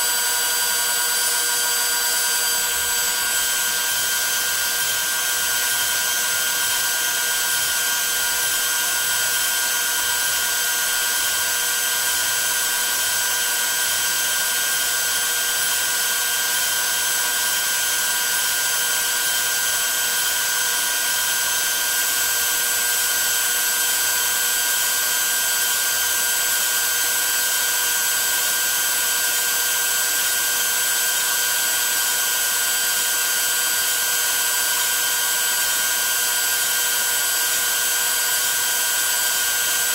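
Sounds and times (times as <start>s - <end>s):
router milling aluminum: 0.0s - 39.9s.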